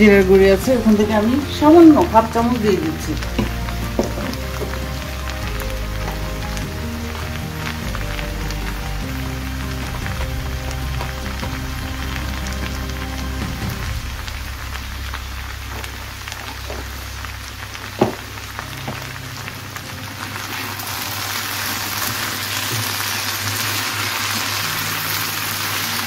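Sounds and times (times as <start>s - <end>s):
potatoes sizzling in oil: 0.0s - 26.0s.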